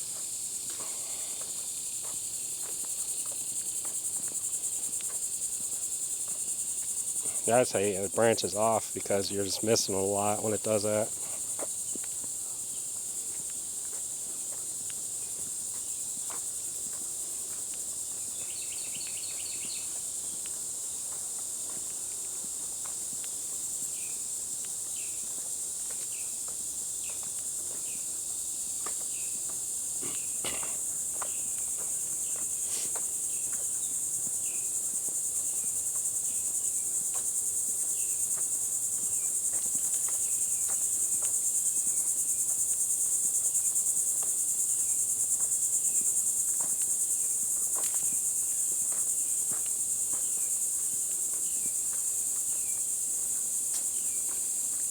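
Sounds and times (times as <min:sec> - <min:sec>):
faint footsteps: 0:00.0 - 0:54.9
high-pitched insect chorus: 0:00.0 - 0:54.9.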